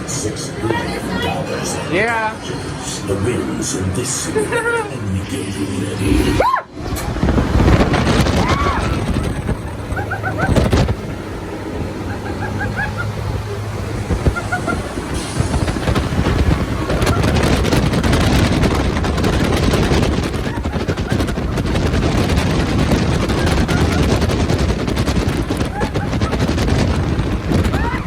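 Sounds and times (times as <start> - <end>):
fans blasting a gale: 0.0 - 28.0
wind buffeting the microphone: 0.0 - 28.0.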